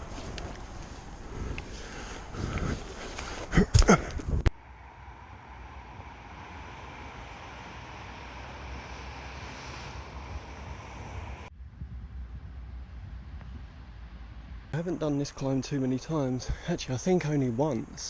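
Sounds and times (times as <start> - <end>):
wind rumble on microphone: 0.0 - 14.8
wind hiss: 0.0 - 18.0.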